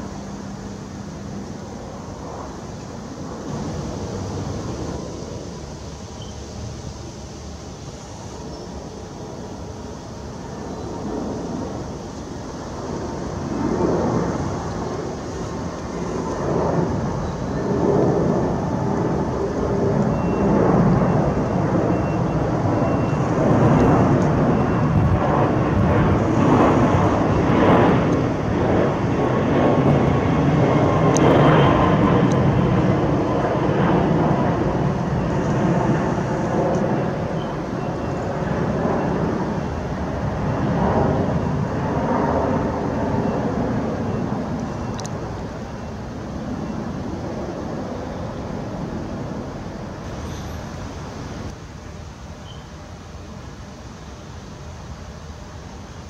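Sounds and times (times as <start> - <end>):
jet airliner passing overhead: 0.0 - 56.0.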